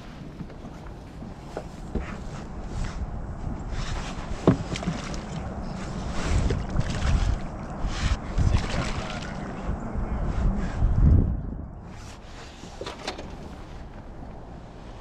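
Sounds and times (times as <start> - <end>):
wind on microphone: 1.8 - 15.0.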